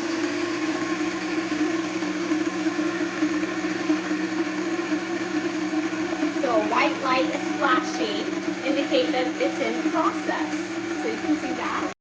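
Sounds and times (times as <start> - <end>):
milk maker motor whirring: 0.0 - 12.0.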